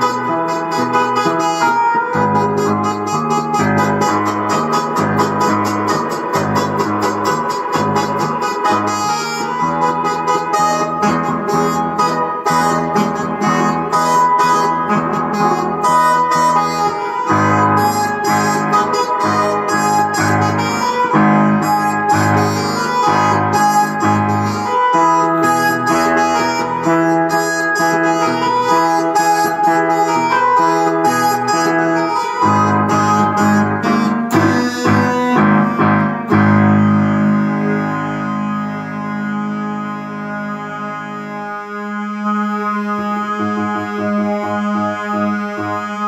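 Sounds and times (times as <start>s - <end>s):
electronic keyboards playing: 0.0s - 46.0s.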